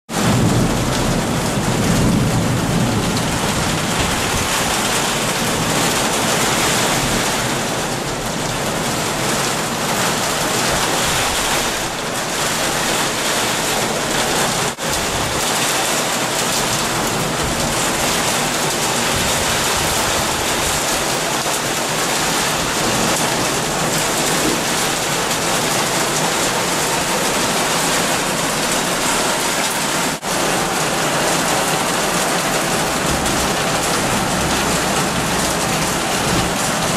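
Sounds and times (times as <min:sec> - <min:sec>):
heavy rain pouring: 0:00.1 - 0:36.9.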